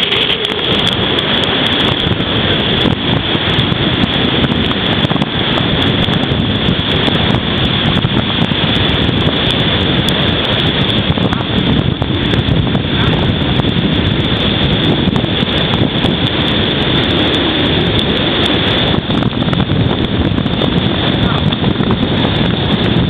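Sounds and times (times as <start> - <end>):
vehicle noise: 0.0 - 23.0
wind rushing: 0.0 - 23.0.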